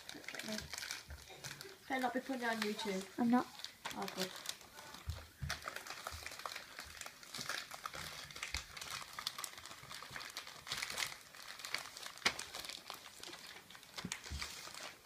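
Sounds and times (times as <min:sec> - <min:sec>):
wrapping paper crinkling: 0:00.0 - 0:15.0.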